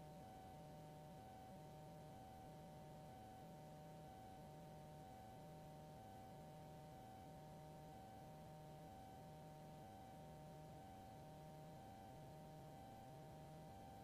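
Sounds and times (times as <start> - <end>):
faint steady high hum: 0.0 - 14.0.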